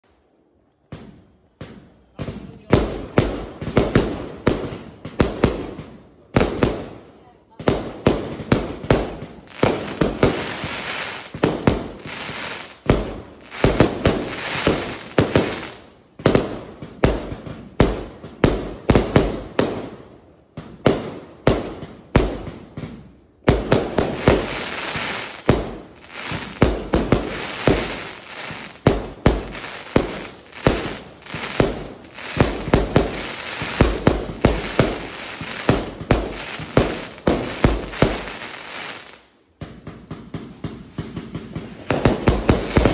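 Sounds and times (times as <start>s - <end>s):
fireworks launching and bursting: 0.9s - 42.9s.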